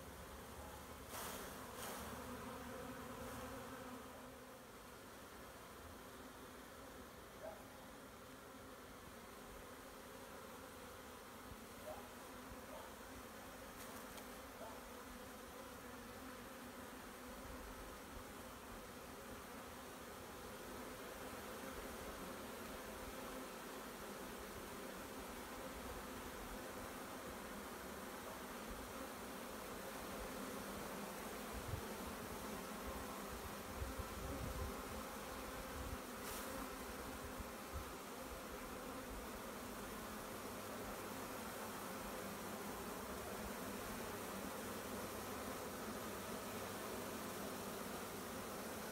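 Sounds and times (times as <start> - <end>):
bee swarm buzzing: 0.0 - 48.9.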